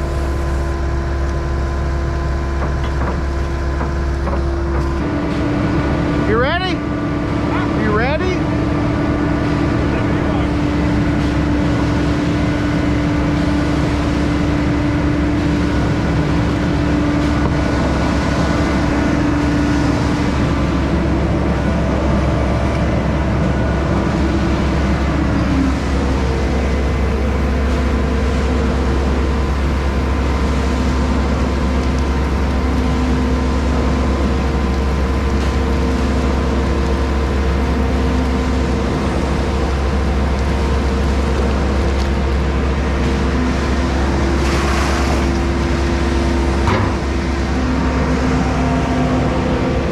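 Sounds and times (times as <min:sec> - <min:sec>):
heavy equipment engine running: 0:00.0 - 0:49.9.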